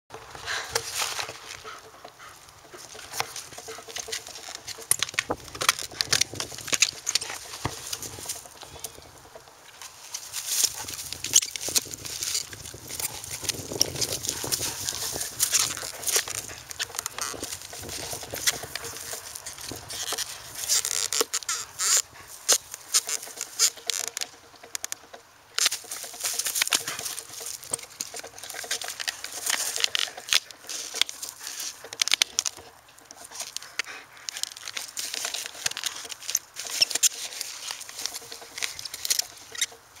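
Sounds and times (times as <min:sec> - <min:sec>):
paper crinkling and crackling: 0:00.5 - 0:24.8, 0:25.6 - 0:40.0.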